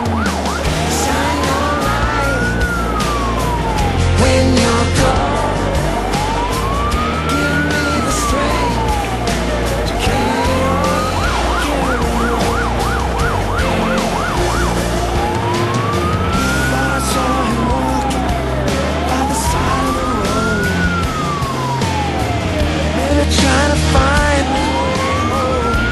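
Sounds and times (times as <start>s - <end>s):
fire engine siren: 0.0s - 25.9s
truck engine droning: 0.0s - 25.9s.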